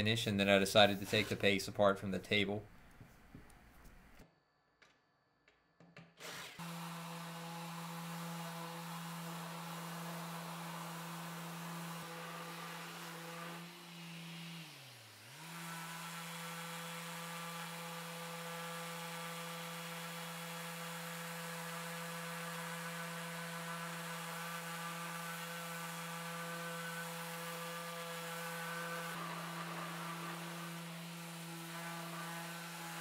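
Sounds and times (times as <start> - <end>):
electric sander sanding wood: 6.2 - 33.0.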